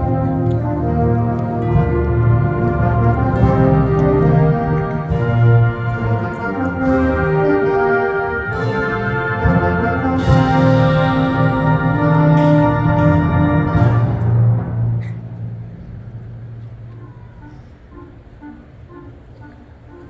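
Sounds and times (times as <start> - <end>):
concert band playing chords: 0.0 - 20.0.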